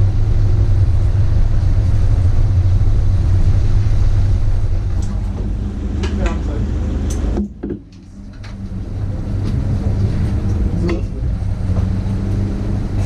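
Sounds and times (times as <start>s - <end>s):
race car engine idling: 0.0s - 13.0s.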